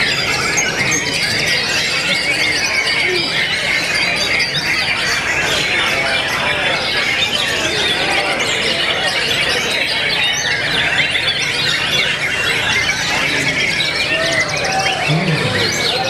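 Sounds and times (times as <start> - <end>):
many birds singing: 0.0 - 16.0.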